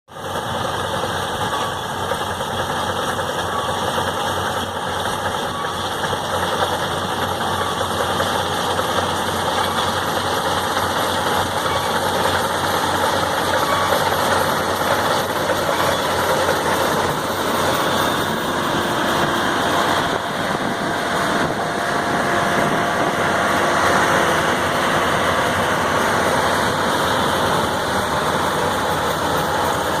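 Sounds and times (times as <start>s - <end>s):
harvesting machine engine running: 0.1s - 30.0s.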